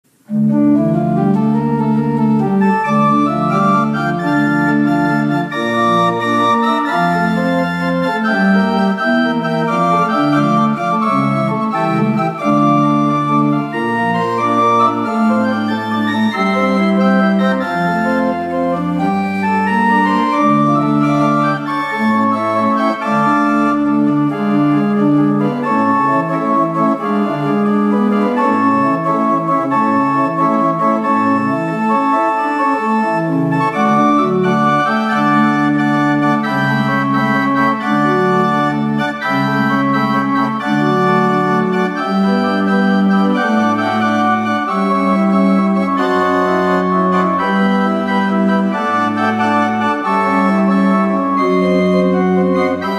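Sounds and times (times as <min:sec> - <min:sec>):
pipe organ playing chords: 0:00.1 - 0:52.9.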